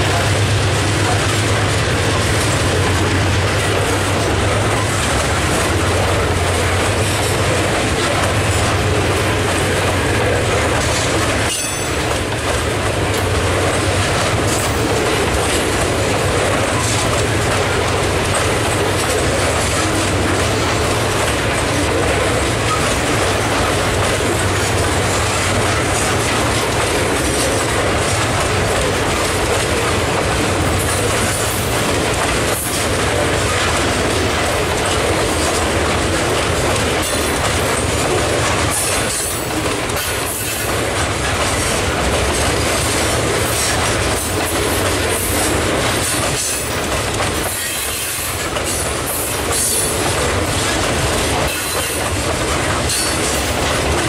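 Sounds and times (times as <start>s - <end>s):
freight train wheels rolling: 0.0s - 54.0s.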